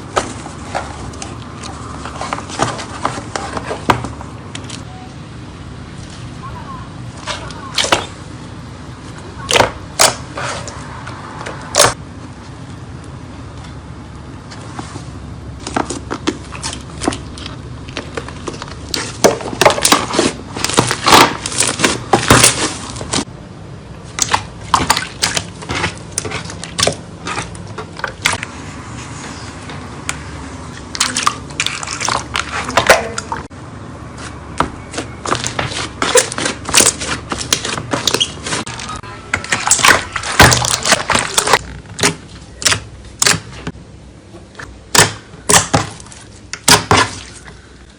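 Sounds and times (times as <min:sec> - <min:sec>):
low background noise: 0:00.0 - 0:47.9.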